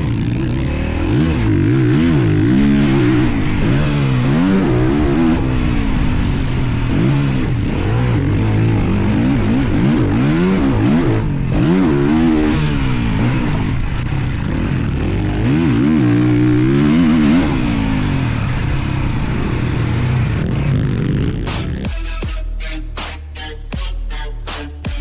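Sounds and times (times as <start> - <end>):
two-stroke motocross engine revving: 0.0 - 22.1.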